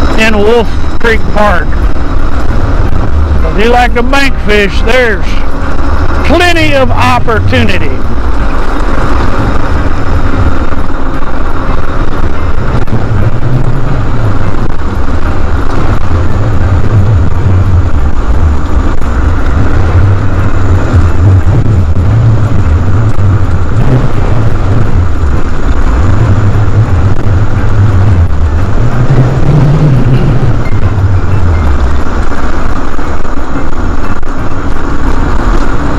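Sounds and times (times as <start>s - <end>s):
scooter road noise: 0.0s - 35.9s
wind buffeting microphone: 0.0s - 35.9s.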